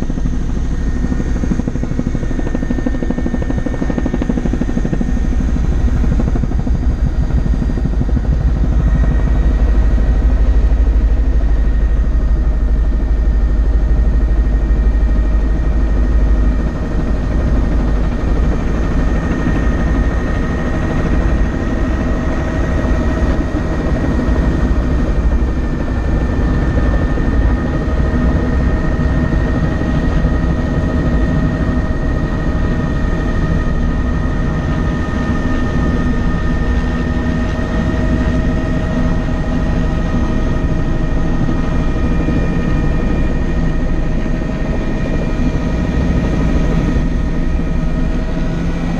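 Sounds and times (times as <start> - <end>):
helicopter rotor thrum: 0.0 - 48.9
high turbine whine: 0.0 - 48.9.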